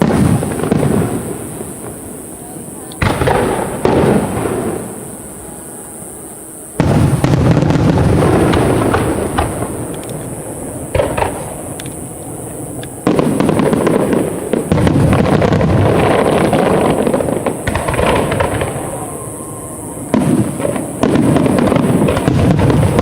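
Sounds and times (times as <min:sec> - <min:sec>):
fireworks bursting with crackling: 0:00.0 - 0:23.0.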